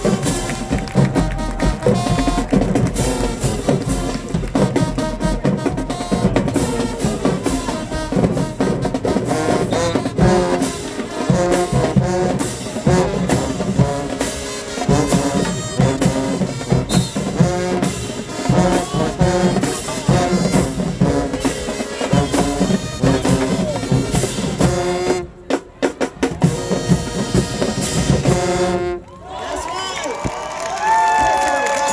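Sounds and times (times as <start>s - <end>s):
marching band brass: 0.0s - 29.2s
drumline beating: 0.0s - 31.9s.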